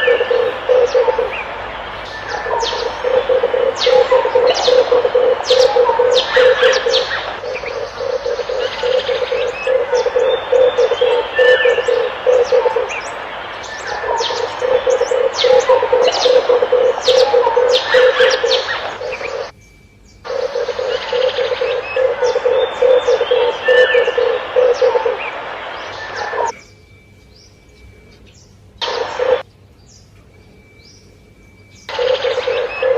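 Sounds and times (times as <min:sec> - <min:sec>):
dove cooing in low pulses: 0:00.0 - 0:19.5, 0:20.2 - 0:26.6, 0:28.8 - 0:29.5, 0:31.9 - 0:32.9
small birds chirping: 0:00.0 - 0:32.9.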